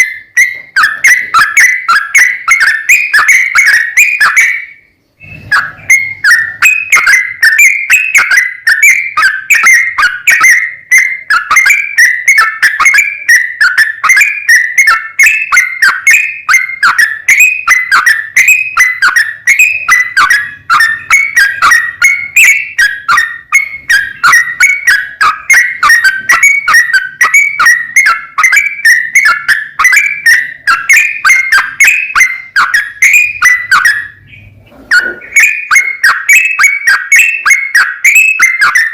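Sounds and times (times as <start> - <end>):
bird singing bubbling chirps: 0.0 - 38.9.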